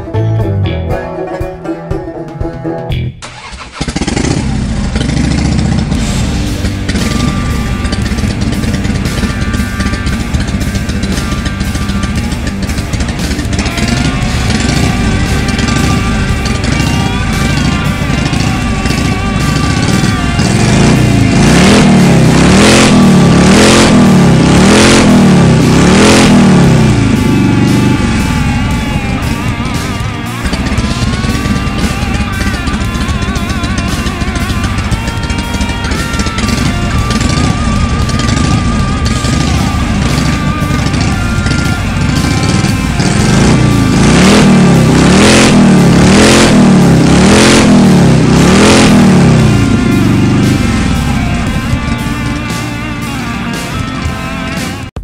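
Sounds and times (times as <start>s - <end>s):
motorcycle engine revving: 3.2s - 55.0s.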